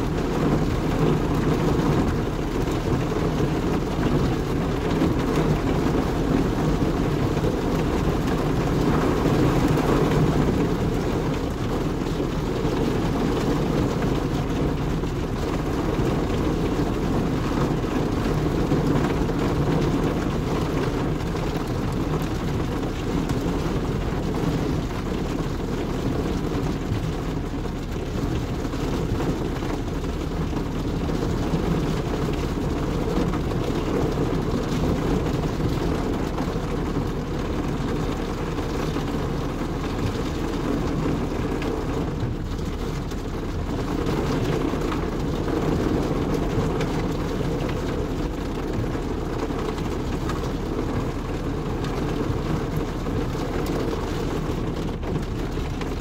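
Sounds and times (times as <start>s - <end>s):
rain on car roof: 0.0s - 56.0s.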